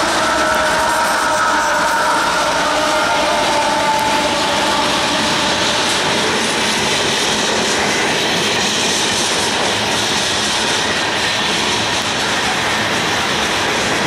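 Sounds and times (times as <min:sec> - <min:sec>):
freight train rolling past: 0:00.0 - 0:14.0
locomotive whining tone: 0:00.0 - 0:14.0.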